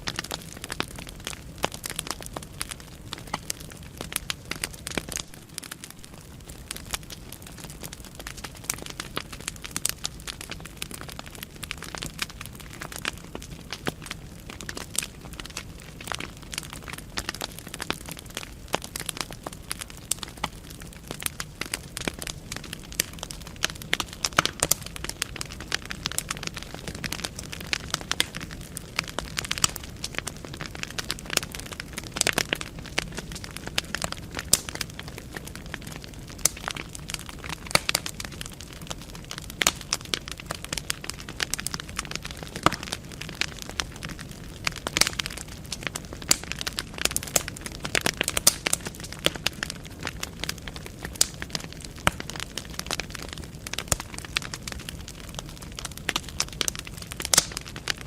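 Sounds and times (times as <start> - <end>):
logs crackling and popping: 0.0 - 58.0.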